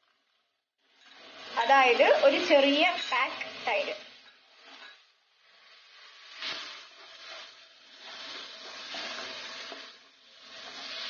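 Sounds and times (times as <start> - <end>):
masala sizzling in hot oil: 0.0 - 11.0
metal spatula scraping pan: 0.9 - 11.0.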